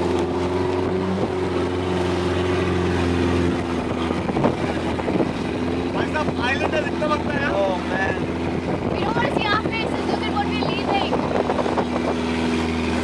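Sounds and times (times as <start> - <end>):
motorboat engine droning: 0.0 - 13.0
rushing wind and water: 0.0 - 13.0.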